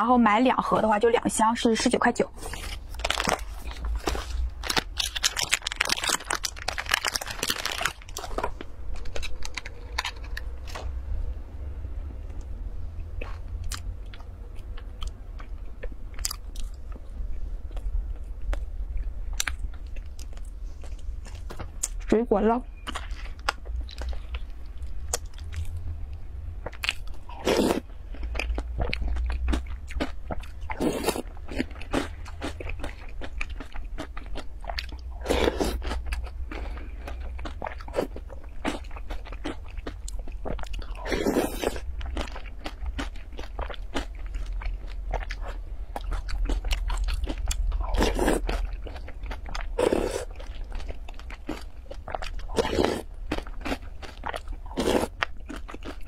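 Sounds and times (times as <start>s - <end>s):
person chewing crunchy food: 2.4s - 11.0s, 13.0s - 22.0s, 22.8s - 25.8s, 26.6s - 56.0s.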